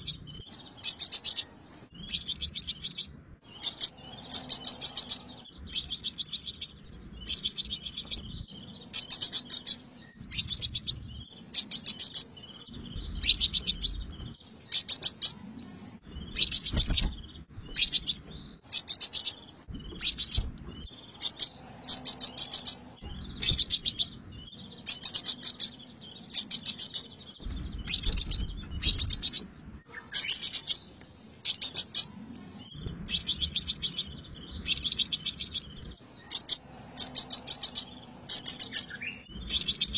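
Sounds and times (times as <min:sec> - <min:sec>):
bird trilling high ticking notes: 0:02.0 - 0:15.4, 0:16.1 - 0:25.5, 0:26.4 - 0:29.6, 0:32.7 - 0:39.9.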